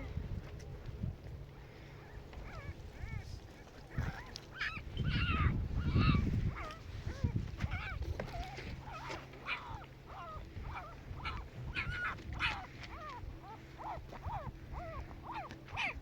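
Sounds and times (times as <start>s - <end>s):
puppies whimpering and yipping: 2.0s - 16.0s.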